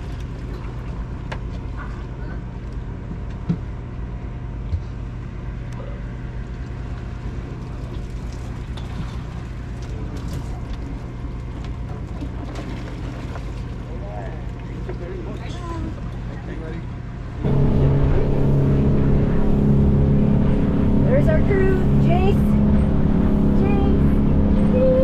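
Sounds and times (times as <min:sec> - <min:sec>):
boat engine droning: 0:03.8 - 0:25.0.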